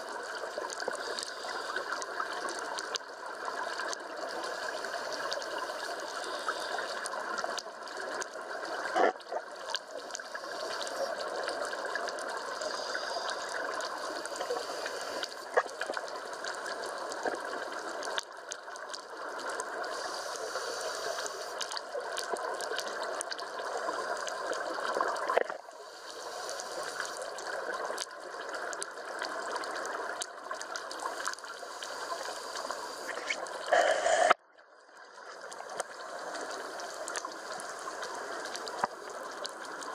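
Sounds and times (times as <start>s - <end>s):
muffled underwater water rushing: 0.0s - 39.9s.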